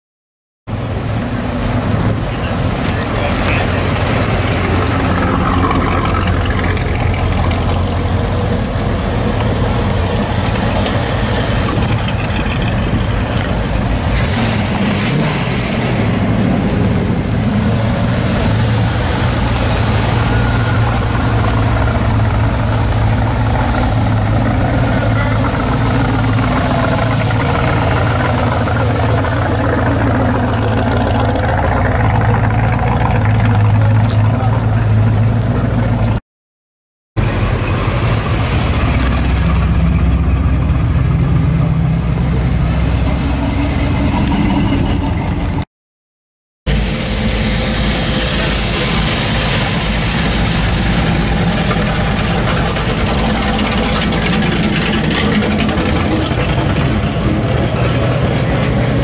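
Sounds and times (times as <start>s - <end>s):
car engines burbling past: 0.7s - 36.2s, 37.2s - 45.6s, 46.7s - 59.0s.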